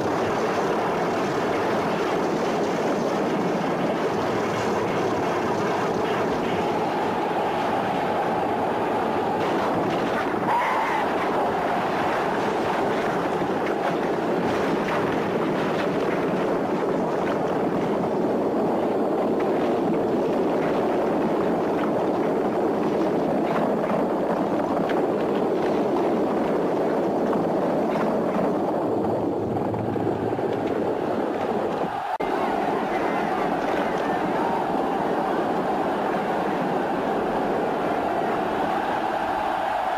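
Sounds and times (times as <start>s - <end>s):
chariot wheels rumbling on sand: 0.0s - 39.9s
galloping hooves: 0.0s - 39.9s.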